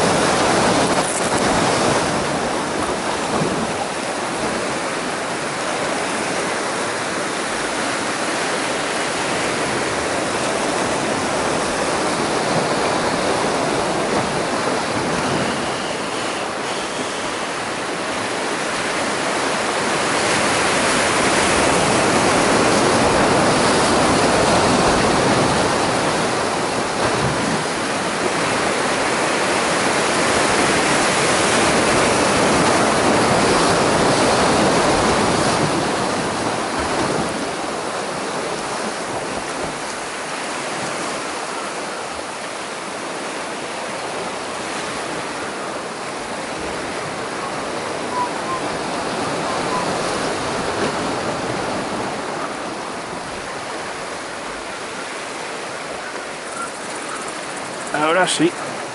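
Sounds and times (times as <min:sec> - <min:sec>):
surf breaking over rocks: 0:00.0 - 0:56.5, 0:57.4 - 0:58.9.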